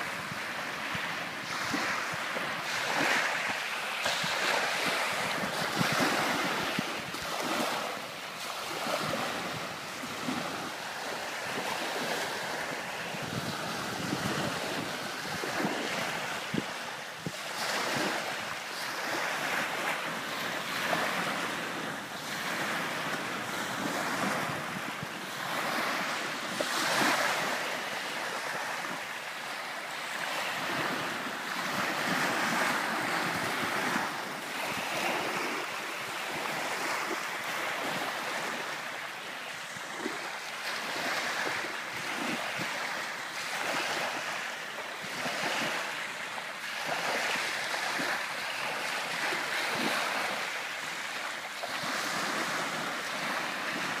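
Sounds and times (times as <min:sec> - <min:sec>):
waves breaking on sand: 0:00.0 - 0:54.0.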